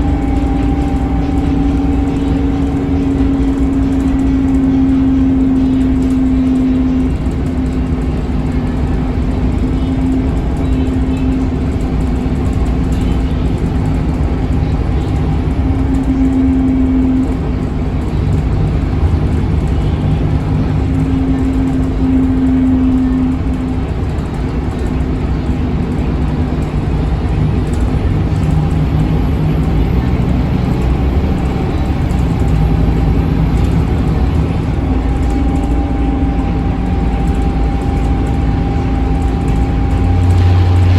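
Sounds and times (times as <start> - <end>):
bus diesel engine: 0.0 - 40.9
hum: 0.0 - 40.9
road noise rumble: 0.0 - 40.9.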